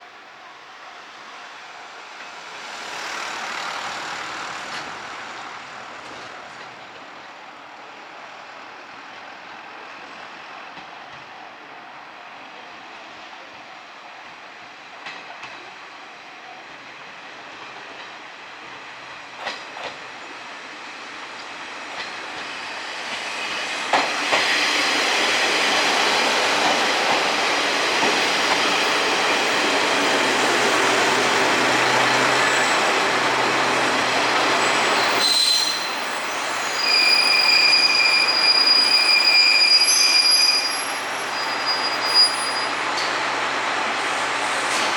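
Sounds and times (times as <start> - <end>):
diesel railcars arriving: 0.0 - 44.9.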